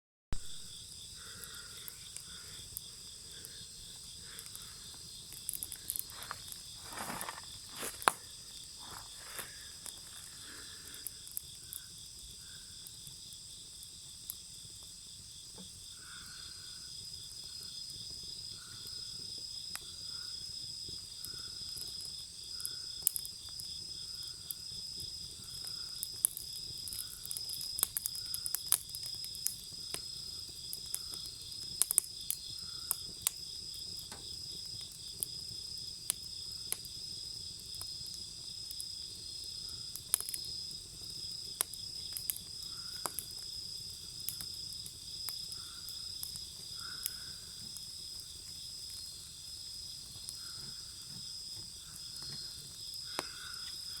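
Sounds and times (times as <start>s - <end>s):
bonfire crackling and popping: 0.3s - 54.0s
crickets and insects chirping: 0.4s - 54.0s.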